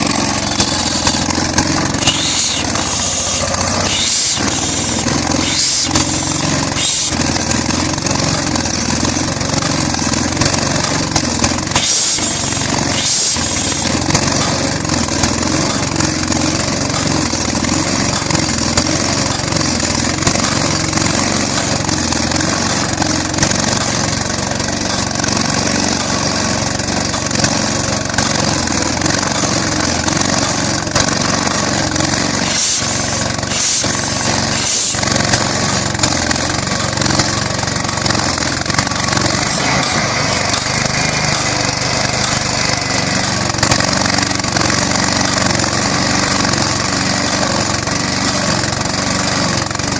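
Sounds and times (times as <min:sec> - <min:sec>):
flywheel engine running: 0:00.0 - 0:49.9.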